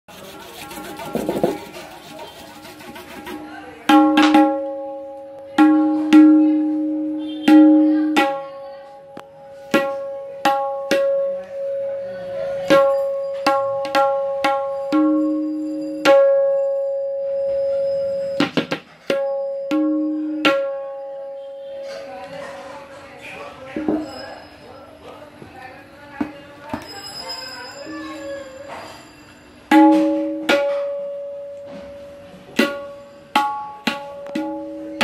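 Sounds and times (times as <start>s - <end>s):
hand drum strokes ringing: 0.2s - 22.2s, 23.8s - 24.8s, 26.7s - 35.0s.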